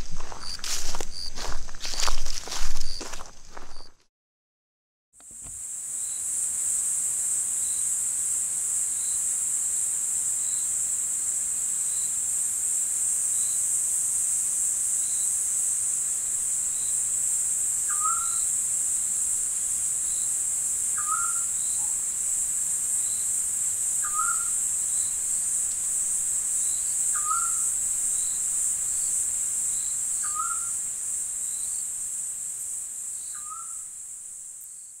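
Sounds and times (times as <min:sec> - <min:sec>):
insect chorus: 0:00.0 - 0:04.0, 0:05.2 - 0:35.0.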